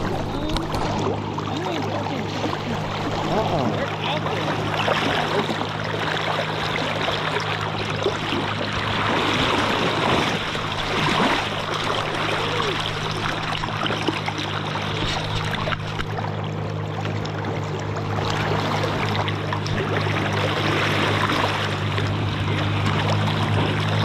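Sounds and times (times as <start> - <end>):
river current rushing and splashing: 0.0 - 24.0
steady low hum: 0.0 - 24.0.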